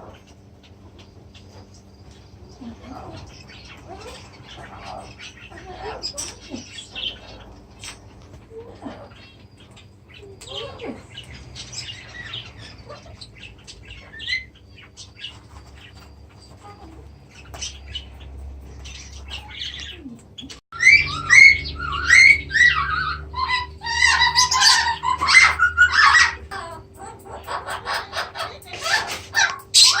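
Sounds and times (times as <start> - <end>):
birds chirping and squawking: 0.0 - 30.0.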